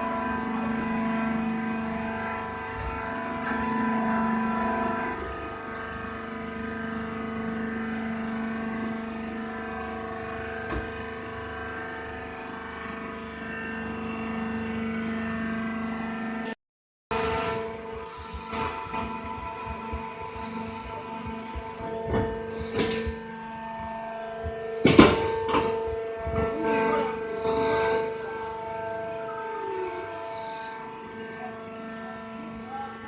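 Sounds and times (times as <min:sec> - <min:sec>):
baler machine humming: 0:00.0 - 0:33.0.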